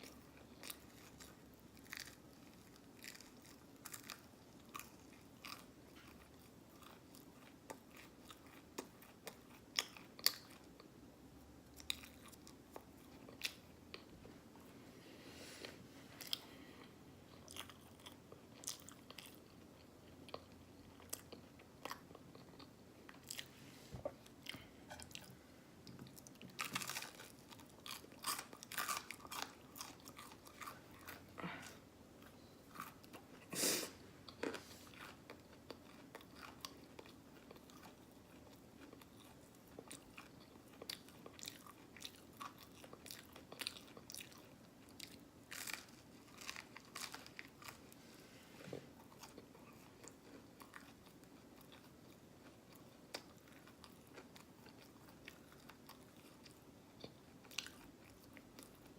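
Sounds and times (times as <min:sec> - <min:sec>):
person chewing: 0:00.0 - 0:10.9, 0:11.8 - 0:14.1, 0:16.2 - 0:23.5, 0:24.1 - 0:48.0, 0:48.9 - 0:58.9.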